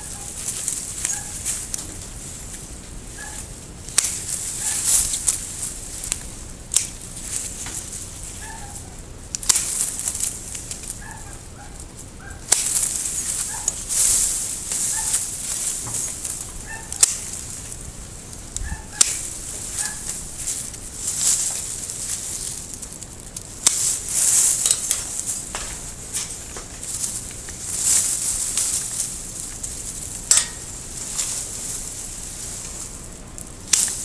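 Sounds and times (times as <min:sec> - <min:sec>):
leafy branches rustling: 0:00.0 - 0:34.0
pruning shears snipping: 0:00.0 - 0:34.0.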